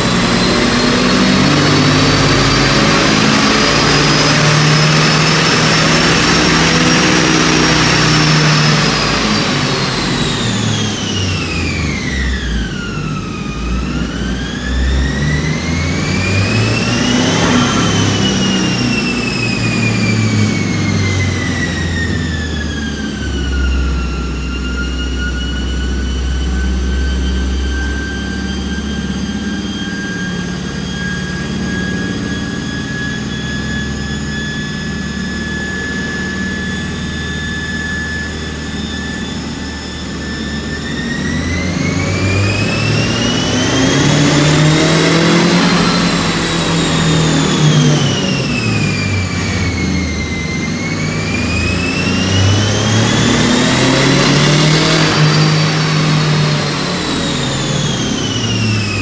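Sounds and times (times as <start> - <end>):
car engine drone on dyno: 0.0 - 59.0
turbo whine: 0.0 - 59.0.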